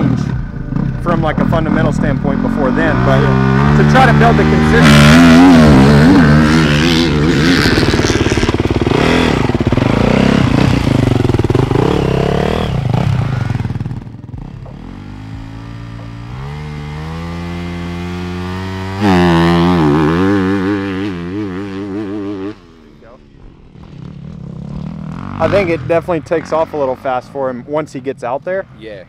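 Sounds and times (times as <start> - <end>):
motocross bike engines revving: 0.0 - 29.0.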